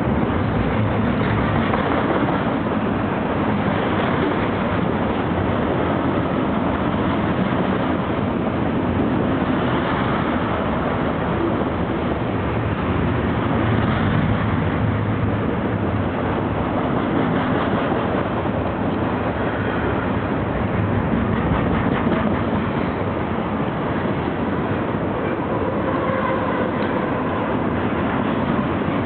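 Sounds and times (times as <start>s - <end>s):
freight train rolling past: 0.0s - 29.0s
steel wheels on rails: 0.0s - 29.0s.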